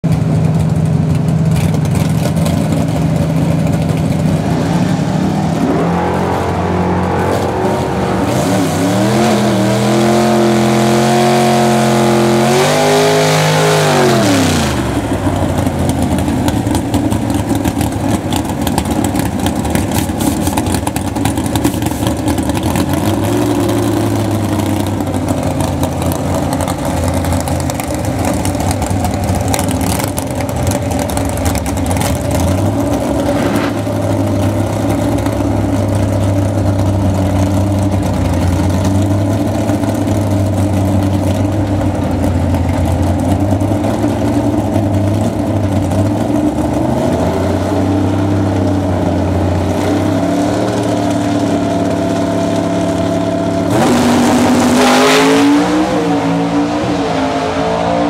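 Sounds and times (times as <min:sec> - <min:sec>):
car engine revving: 0:01.6 - 0:58.0.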